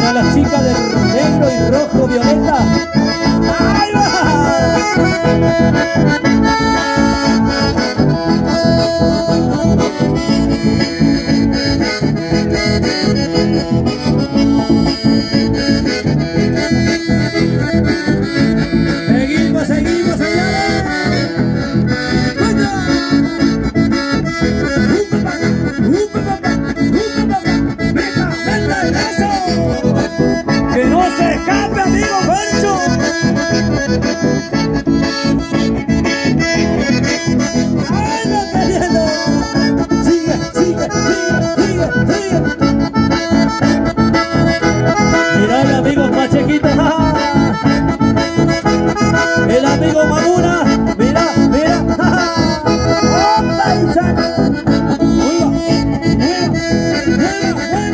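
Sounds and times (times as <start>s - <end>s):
accordion dance music: 0.0s - 57.9s.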